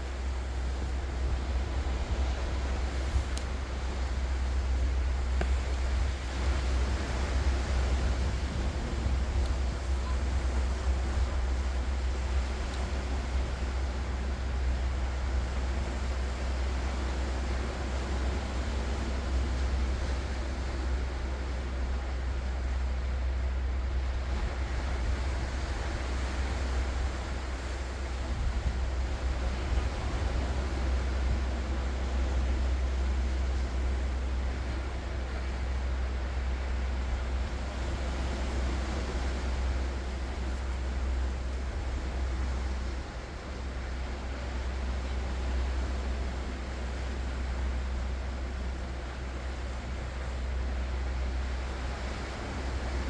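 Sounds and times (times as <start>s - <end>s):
ocean waves washing ashore: 0.0s - 53.0s.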